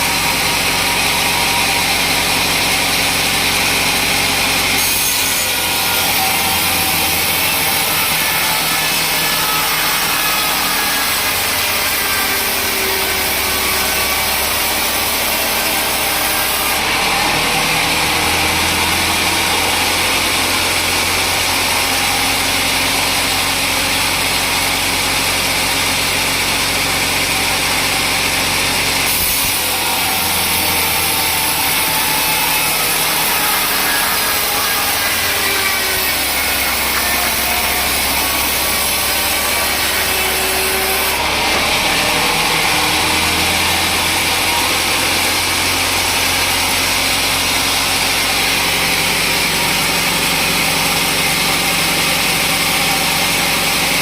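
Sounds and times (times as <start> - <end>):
sawmill saw cutting logs: 0.0 - 54.0.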